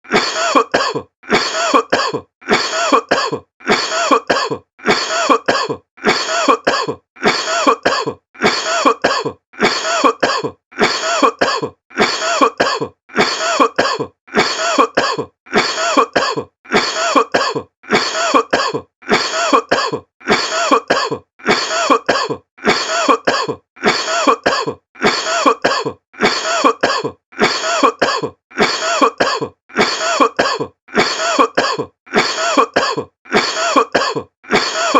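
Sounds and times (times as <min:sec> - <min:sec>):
person coughing: 0:00.0 - 0:34.9.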